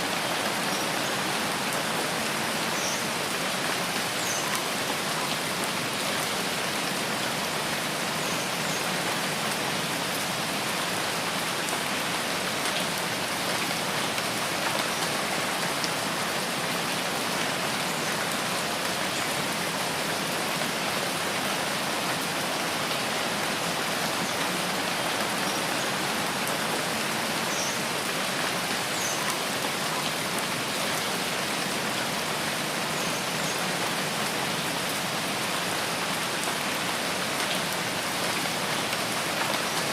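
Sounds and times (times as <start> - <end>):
steady rain on forest: 0.0 - 39.9.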